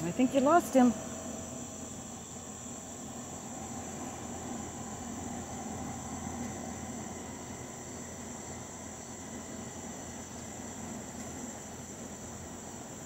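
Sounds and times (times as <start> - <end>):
low steady hum: 0.0 - 13.0
night insects chorus: 0.0 - 13.0.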